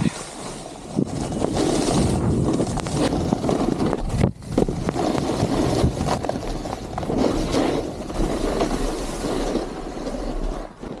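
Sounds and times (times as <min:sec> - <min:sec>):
snowboard scraping over snow: 0:00.0 - 0:11.0
wind buffeting microphone: 0:00.0 - 0:11.0.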